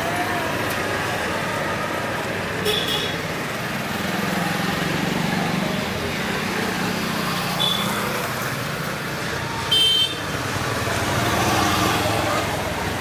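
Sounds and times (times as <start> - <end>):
traffic noise with low hum: 0.0 - 13.0.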